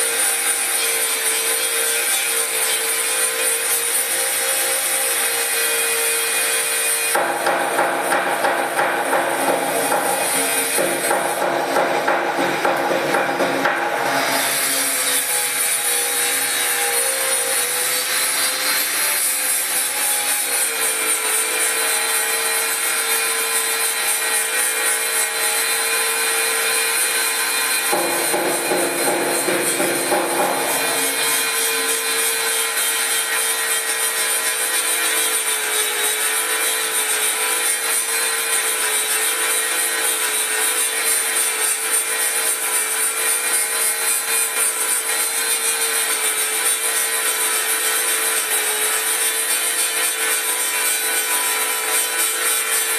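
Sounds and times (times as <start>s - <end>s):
angle grinder grinding metal: 0.0s - 52.9s.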